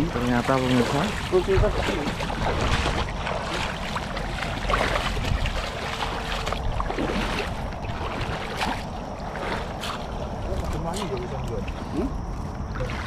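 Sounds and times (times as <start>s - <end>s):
small splashes and knocks: 0.0s - 12.1s
water rushing: 0.0s - 13.0s.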